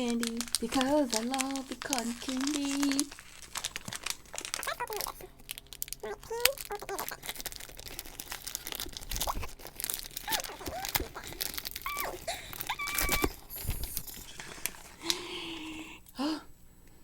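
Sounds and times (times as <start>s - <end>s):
plastic packaging crinkling: 0.0s - 15.2s.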